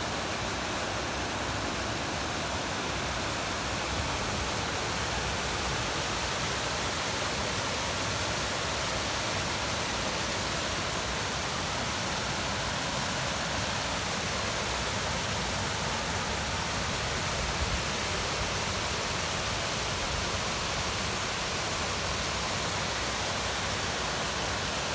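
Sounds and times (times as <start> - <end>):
small waterfall rushing: 0.0 - 24.9.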